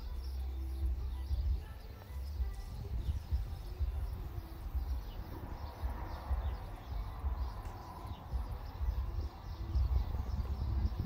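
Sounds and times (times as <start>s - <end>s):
small birds chirping: 0.0s - 11.0s
wind buffeting microphone: 0.0s - 11.0s.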